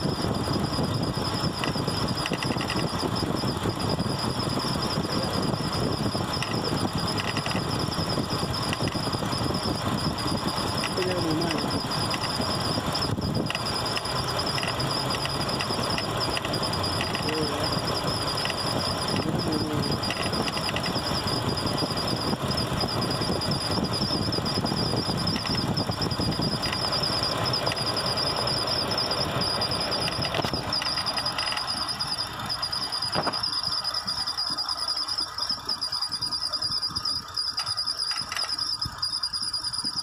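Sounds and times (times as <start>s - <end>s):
engine running: 0.0s - 40.0s
high-pitched fluttering squeal: 0.0s - 40.0s
light irregular ticking: 0.0s - 40.0s.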